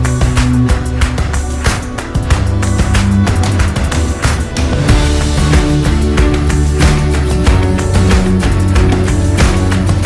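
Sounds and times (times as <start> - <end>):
music with drum beat and bass: 0.0 - 10.0.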